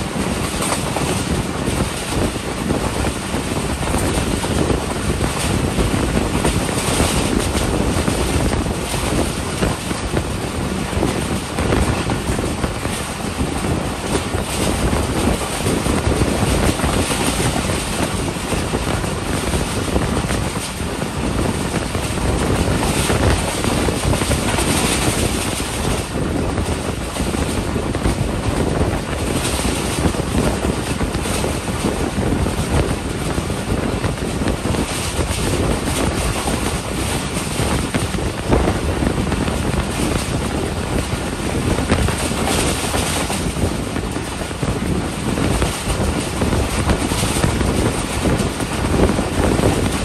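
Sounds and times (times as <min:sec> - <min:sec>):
train wheels rumbling on rails: 0:00.0 - 0:50.0
wind rushing past: 0:00.0 - 0:50.0.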